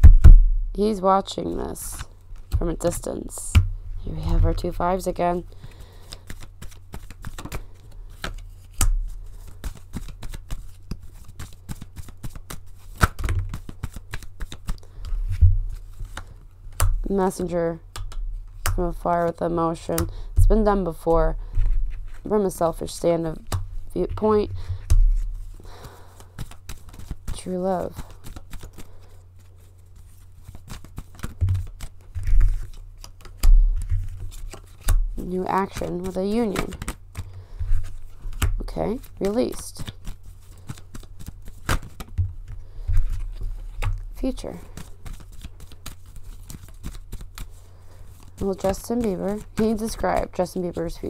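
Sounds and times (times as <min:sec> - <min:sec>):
low steady hum: 0:00.0 - 0:51.0
cards being shuffled: 0:04.2 - 0:51.0.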